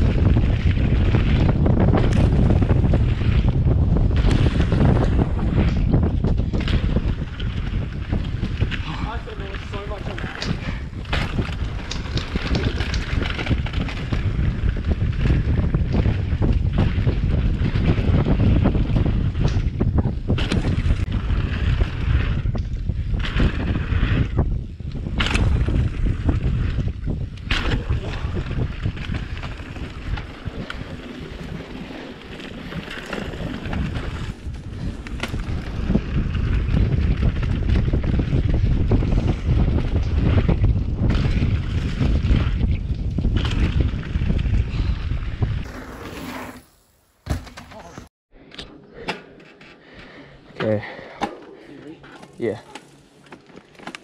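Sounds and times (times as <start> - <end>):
wind buffeting microphone: 0.0 - 46.2
bike knocks and rattles over bumps: 0.0 - 48.1
rumble of bike ride: 0.0 - 54.0.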